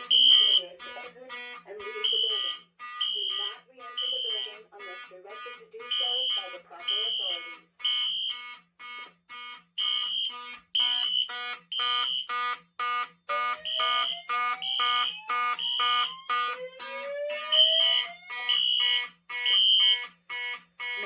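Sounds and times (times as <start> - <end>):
fire alarm horn blasts: 0.0 - 21.0.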